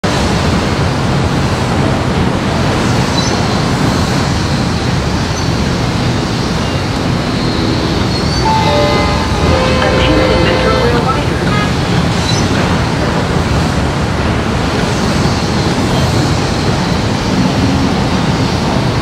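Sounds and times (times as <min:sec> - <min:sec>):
traffic rumble and hiss: 0:00.1 - 0:08.5, 0:10.0 - 0:19.0.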